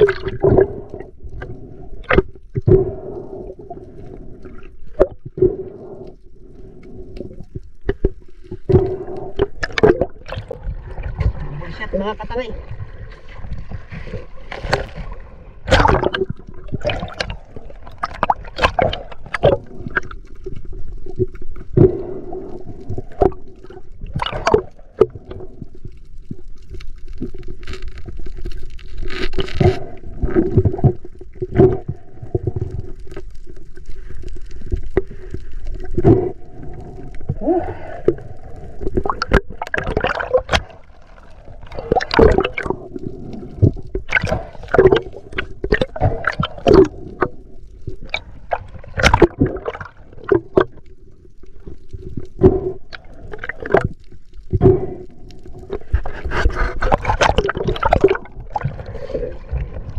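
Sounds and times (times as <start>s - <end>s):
muffled underwater rush: 0.0s - 59.9s.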